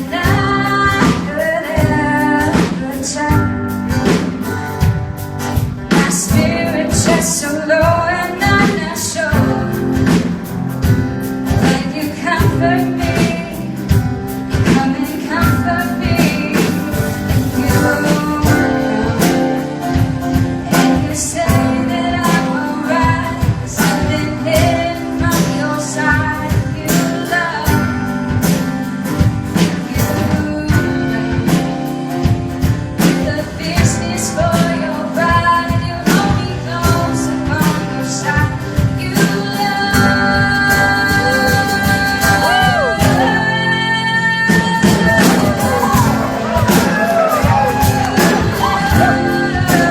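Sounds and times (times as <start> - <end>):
person singing: 0.0 - 4.4, 5.8 - 10.7, 11.5 - 28.4, 29.5 - 32.4, 33.0 - 49.9
instrumental backing with beat: 0.0 - 49.9.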